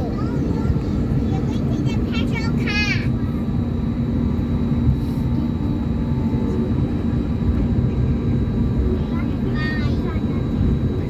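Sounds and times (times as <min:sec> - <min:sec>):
airplane engine rumble in cabin: 0:00.0 - 0:11.0.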